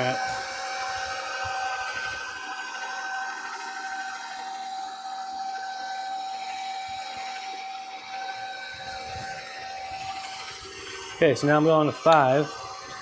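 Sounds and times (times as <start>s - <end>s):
stand mixer motor whine: 0.0s - 13.0s.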